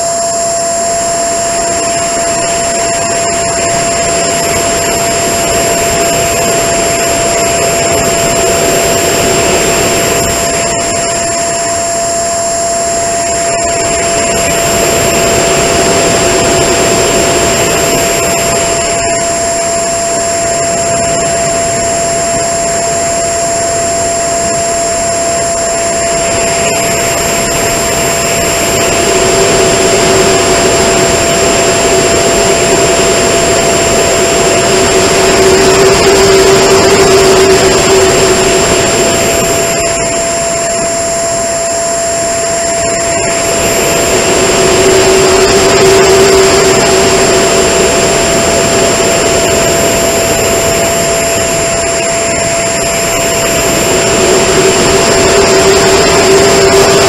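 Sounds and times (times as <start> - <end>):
electric ducted fan whine: 0.0 - 57.0.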